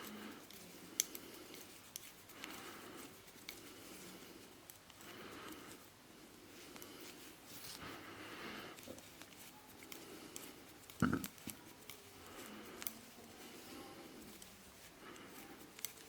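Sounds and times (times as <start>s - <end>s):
knitting needles clicking: 0.0s - 5.8s, 8.8s - 16.0s
yarn rustling: 0.0s - 16.0s.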